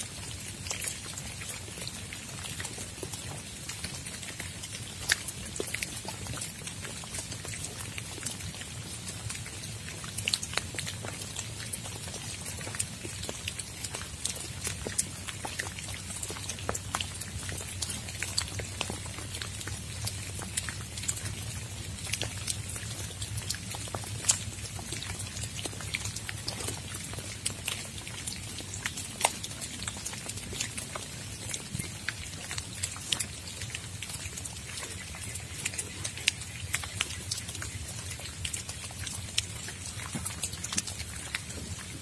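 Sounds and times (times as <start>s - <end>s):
rain drops ticking: 0.0s - 42.0s
rain hiss: 0.0s - 42.0s.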